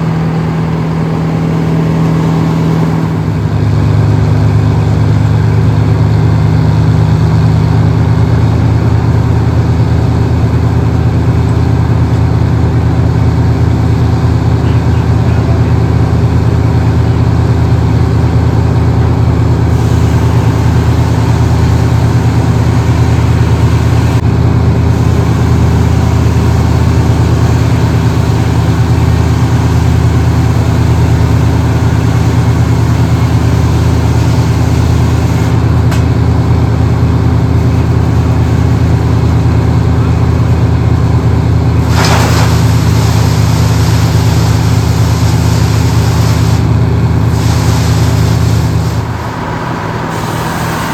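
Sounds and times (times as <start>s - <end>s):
large engine running steadily: 0.0s - 50.9s.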